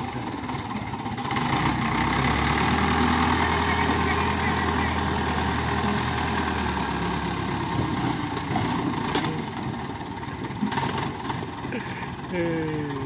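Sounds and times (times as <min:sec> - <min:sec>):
backhoe engine idling: 0:00.0 - 0:13.0.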